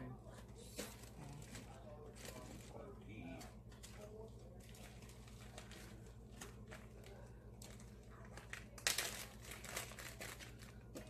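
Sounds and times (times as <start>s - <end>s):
plastic bag crinkling: 0.8s - 11.0s.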